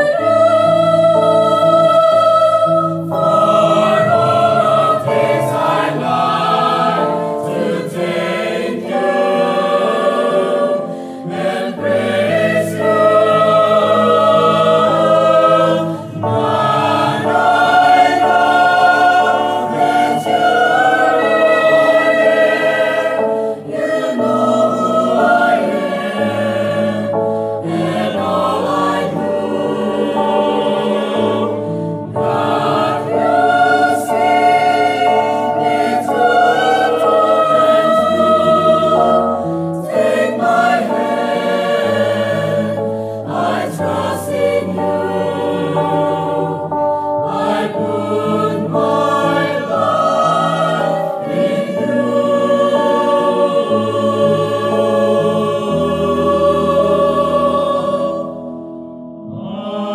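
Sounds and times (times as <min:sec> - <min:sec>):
choir singing worship song: 0:00.0 - 0:59.9.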